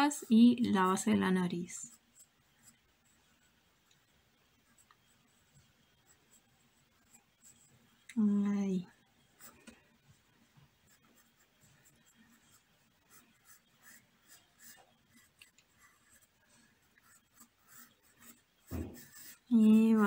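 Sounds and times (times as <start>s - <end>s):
pencil scratching on paper: 0.0s - 8.1s, 8.9s - 20.0s.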